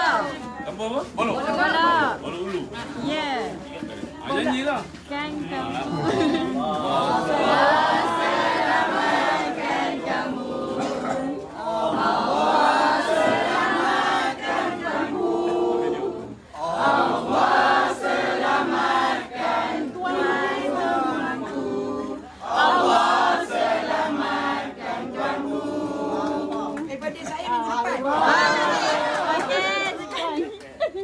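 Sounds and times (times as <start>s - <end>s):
group singing in unison: 0.0s - 0.5s, 5.5s - 30.1s.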